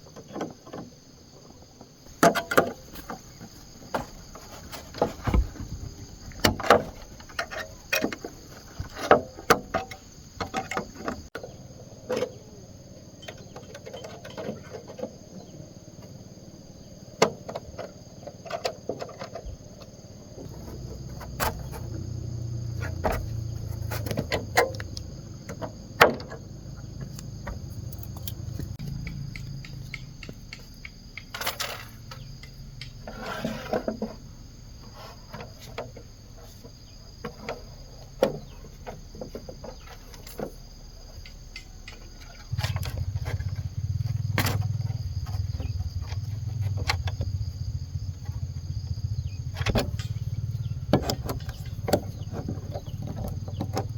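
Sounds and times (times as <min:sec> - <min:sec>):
insects droning: 0:00.0 - 0:53.9
bamboo knocking and clattering: 0:02.0 - 0:11.5, 0:17.2 - 0:34.3, 0:35.0 - 0:48.5, 0:49.1 - 0:53.9.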